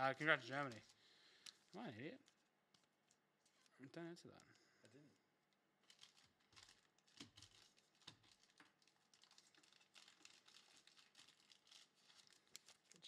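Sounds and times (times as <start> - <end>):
plastic packaging crinkling: 0.2 - 3.8, 5.8 - 13.0.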